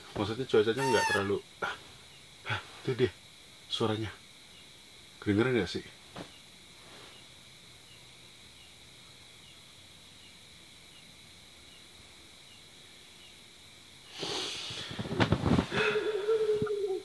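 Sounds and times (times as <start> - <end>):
night insects droning: 0.0 - 17.0.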